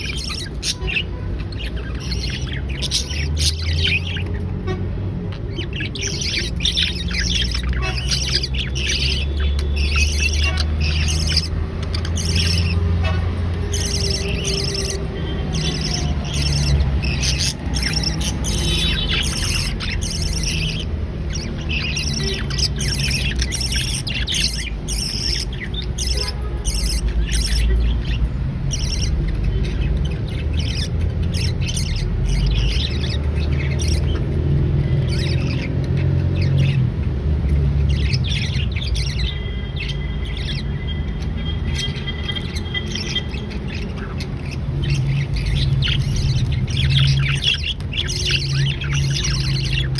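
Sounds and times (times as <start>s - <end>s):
budgerigars chirping: 0.0s - 49.9s.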